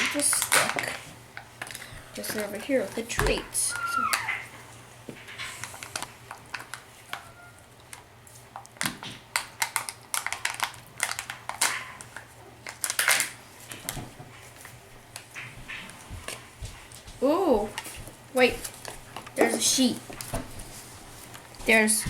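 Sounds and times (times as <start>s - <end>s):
plastic clicks and crinkles: 0.0s - 4.4s, 5.1s - 16.4s, 18.6s - 20.6s.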